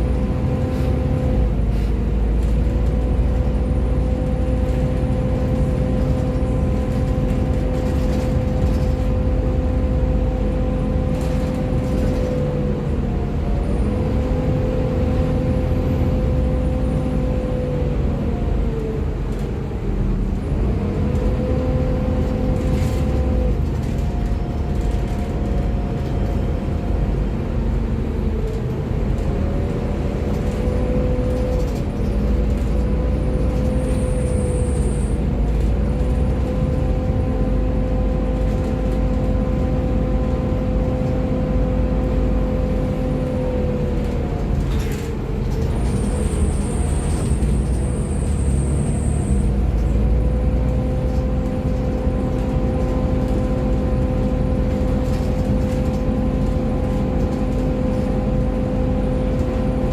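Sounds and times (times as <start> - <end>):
bus engine whine: 0.0 - 59.9
road rumble: 0.0 - 59.9.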